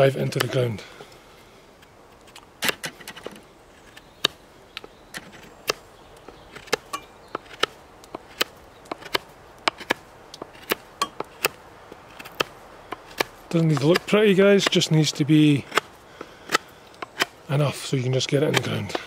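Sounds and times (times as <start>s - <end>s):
knife carving wooden stick: 2.2s - 15.9s, 16.5s - 17.4s, 18.2s - 19.0s.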